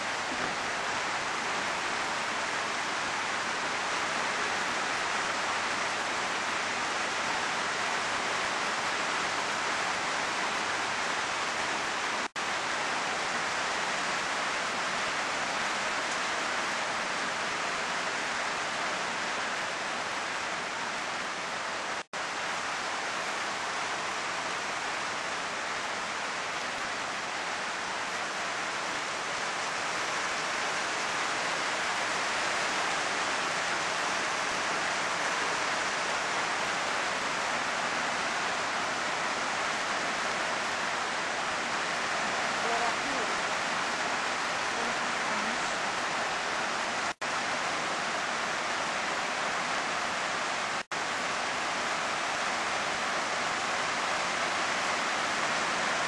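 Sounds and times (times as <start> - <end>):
heavy rain downpour: 0.0 - 56.0.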